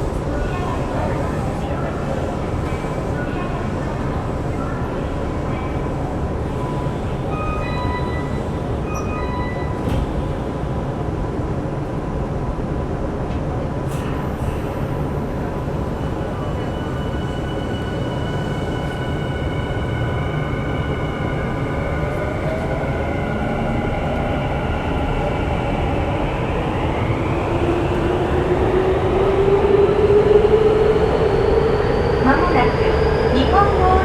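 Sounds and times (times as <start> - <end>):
rumble of train wheels on rail: 0.0 - 34.0.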